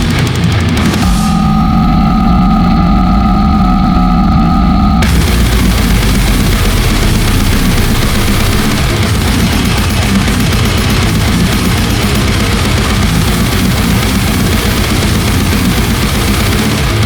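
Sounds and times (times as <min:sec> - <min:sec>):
deathgrind music: 0:00.0 - 0:17.0
distorted electric guitars: 0:00.0 - 0:17.0
drums: 0:00.0 - 0:17.0.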